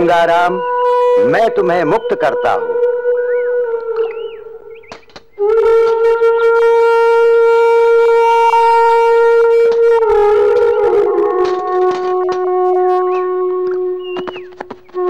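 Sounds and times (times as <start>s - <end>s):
reedy wind instrument holding note: 0.0s - 15.0s.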